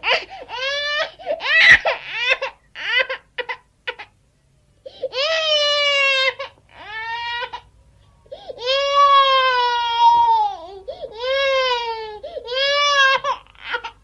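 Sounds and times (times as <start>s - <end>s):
baby crying: 0.0s - 4.1s, 5.0s - 7.6s, 8.4s - 14.0s.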